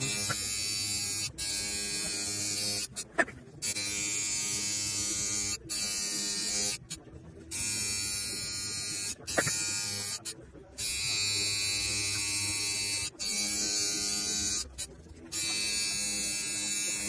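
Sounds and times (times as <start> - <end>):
tattoo machine buzzing: 0.0 - 17.0.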